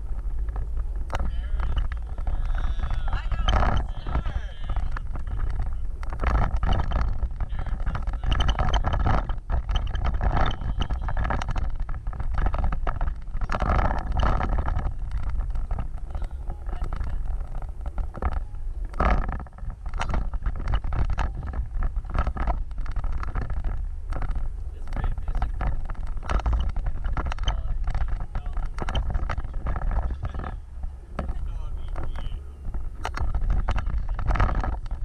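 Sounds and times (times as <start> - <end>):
knocks and rattles: 0.0 - 35.0
off-road vehicle rumbling: 0.0 - 35.0.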